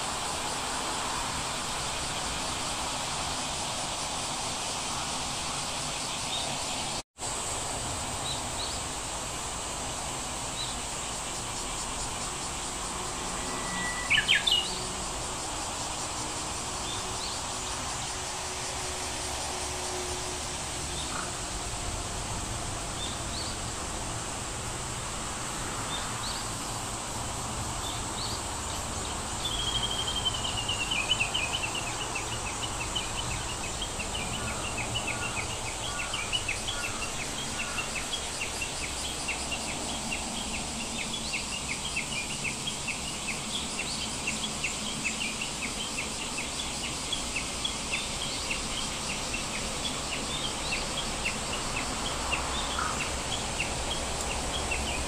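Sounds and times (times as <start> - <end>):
steady background noise: 0.0 - 55.0.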